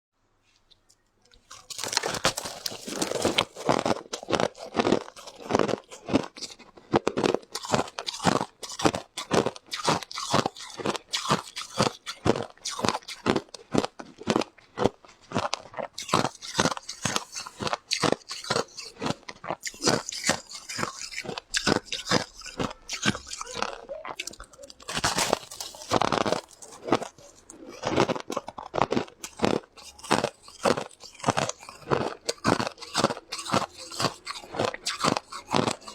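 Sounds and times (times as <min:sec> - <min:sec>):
person crunching ice: 0:01.4 - 0:35.9.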